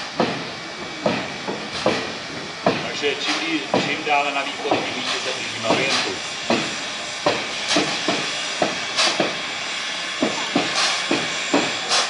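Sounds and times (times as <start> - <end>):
steam locomotive chuffing: 0.0 - 12.0.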